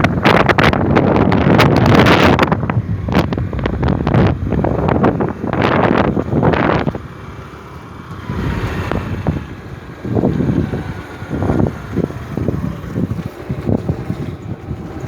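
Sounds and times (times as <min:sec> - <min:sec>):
scooter engine running: 0:00.0 - 0:15.0
wind buffeting microphone: 0:00.0 - 0:15.0.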